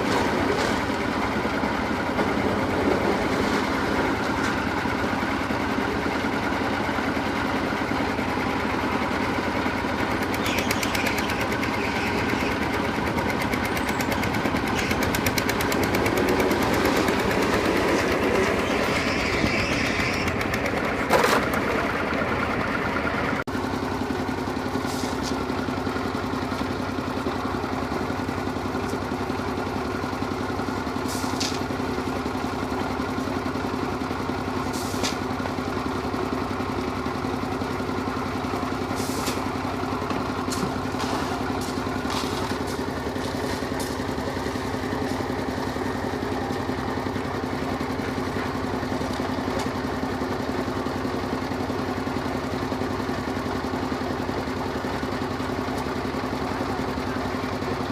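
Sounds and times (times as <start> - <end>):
construction machinery engine: 0.0 - 57.9.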